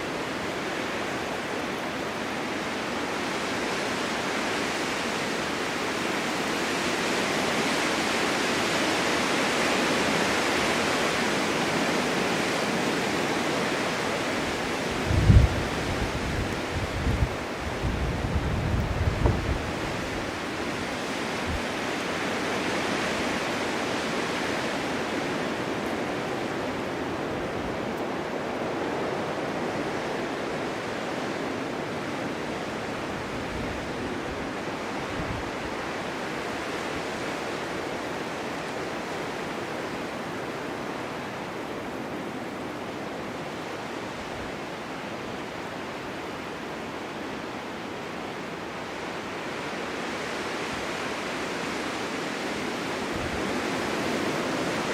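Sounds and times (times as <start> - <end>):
snowstorm wind blowing: 0.0 - 54.9.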